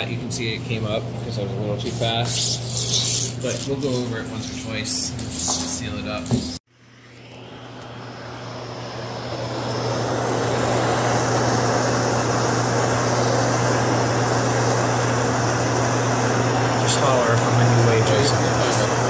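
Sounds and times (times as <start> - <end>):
steady low hum: 0.0 - 19.0
propane torch flame hissing: 1.7 - 19.0.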